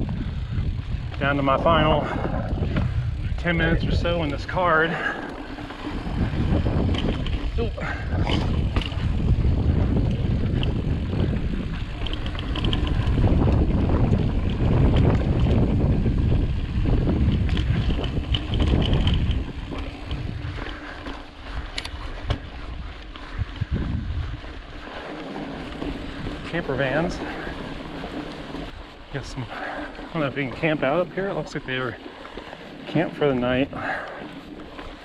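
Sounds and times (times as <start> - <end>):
wind on microphone: 0.0 - 31.8
bike tyres rumbling over rock: 0.0 - 35.0.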